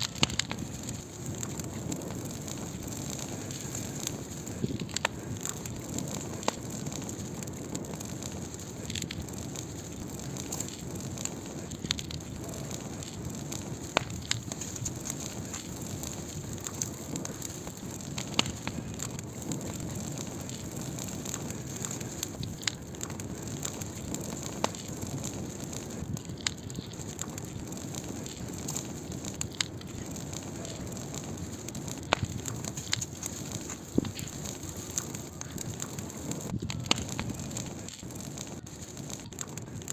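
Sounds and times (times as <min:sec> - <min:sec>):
fire flames rushing: 0:00.0 - 0:39.9
wood crackling and popping: 0:00.0 - 0:39.9.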